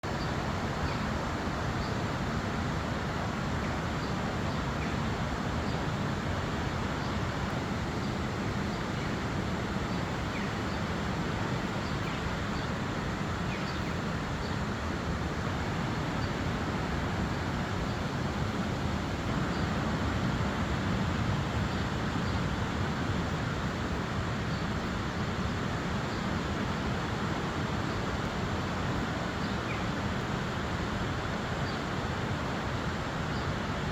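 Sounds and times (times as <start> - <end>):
fast river rushing: 0.1 - 33.9.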